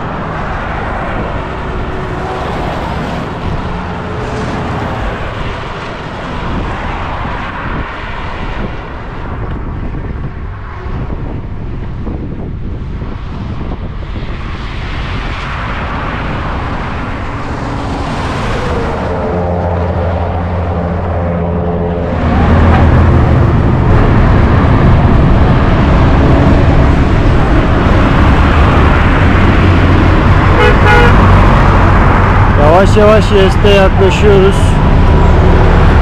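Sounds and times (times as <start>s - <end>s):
highway traffic passing: 0.0s - 36.0s
vehicle engine hum: 0.0s - 36.0s
wind rushing on microphone: 0.0s - 36.0s.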